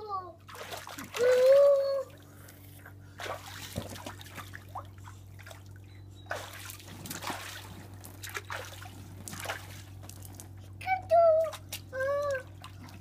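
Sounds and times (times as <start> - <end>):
water splashing in paddling pool: 0.4 - 2.5, 3.1 - 13.0.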